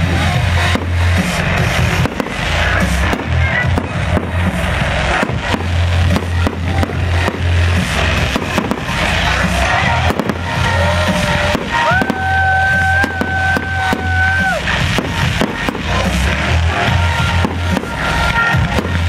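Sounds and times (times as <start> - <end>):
fireworks bursting and crackling: 0.0 - 19.0
music with heavy bass: 0.0 - 19.0.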